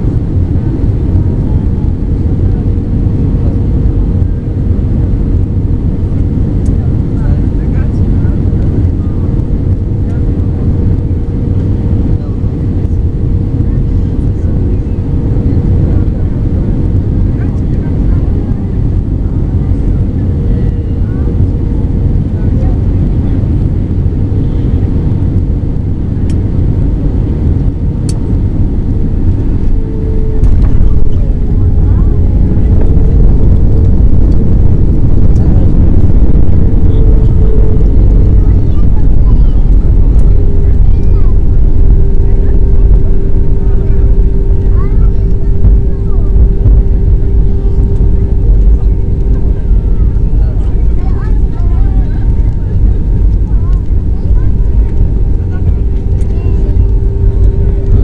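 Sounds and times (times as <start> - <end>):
airflow over fuselage: 0.0 - 58.0
airplane cabin engine rumble: 0.0 - 58.0
faint steady hum: 0.0 - 58.0
rushing air: 0.0 - 58.0.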